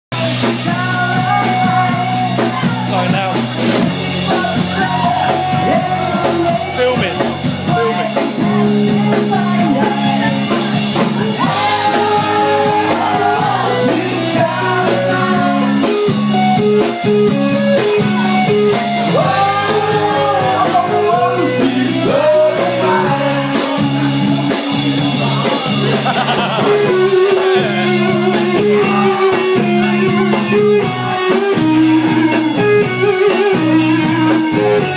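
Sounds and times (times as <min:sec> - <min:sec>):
bass guitar: 0:00.1 - 0:34.9
drums: 0:00.1 - 0:34.9
electric guitar: 0:00.1 - 0:34.9
person singing: 0:00.2 - 0:03.1, 0:04.1 - 0:16.9, 0:17.5 - 0:34.9.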